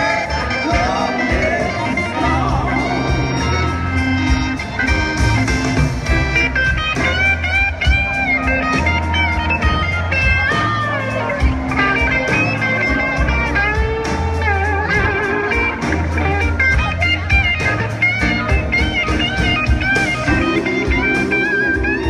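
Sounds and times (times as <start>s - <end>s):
bass and drums: 0.0s - 22.0s
electric guitar solo: 0.0s - 22.0s.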